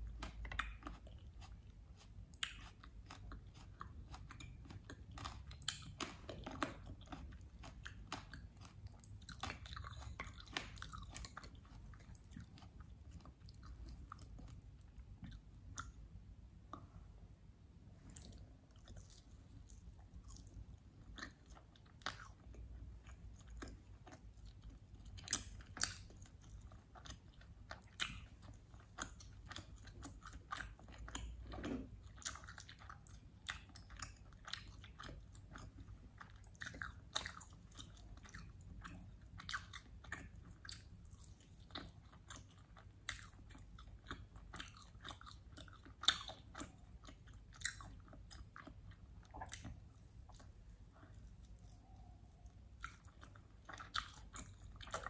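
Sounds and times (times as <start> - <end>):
chewing and biting meat: 0.0 - 16.0, 18.1 - 55.0.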